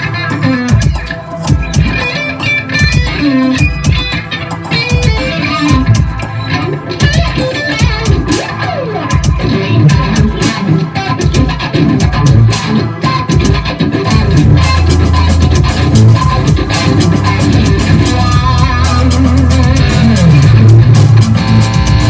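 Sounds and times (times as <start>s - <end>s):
electric guitar fast lead playing: 0.0s - 22.0s.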